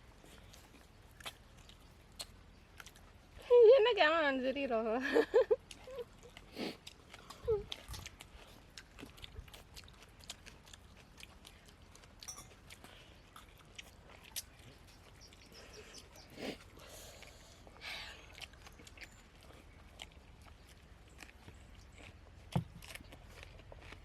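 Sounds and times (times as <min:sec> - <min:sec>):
faint chewing and mouth clicks: 0:00.0 - 0:03.5, 0:05.0 - 0:24.0.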